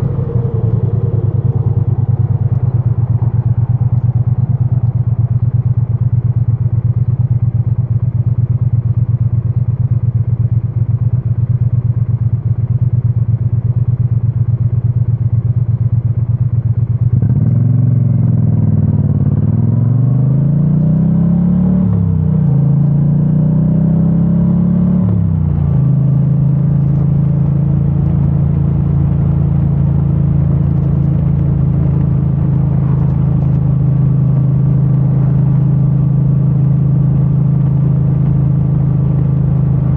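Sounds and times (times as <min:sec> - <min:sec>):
motorcycle engine running: 0:00.0 - 0:20.9, 0:21.5 - 0:39.9.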